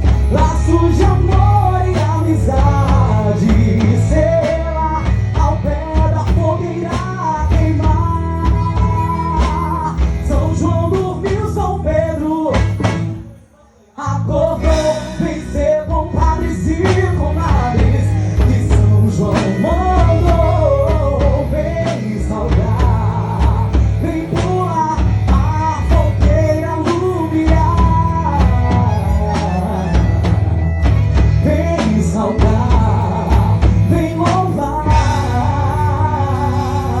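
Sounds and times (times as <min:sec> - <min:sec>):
song with band: 0:00.0 - 0:37.0.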